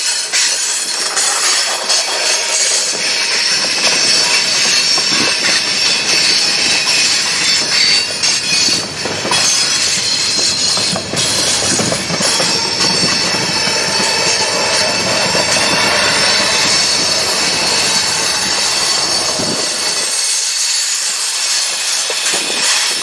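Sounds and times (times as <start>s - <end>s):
train cars clattering over track: 0.0s - 23.0s
train wheels squealing on rails: 0.0s - 23.0s.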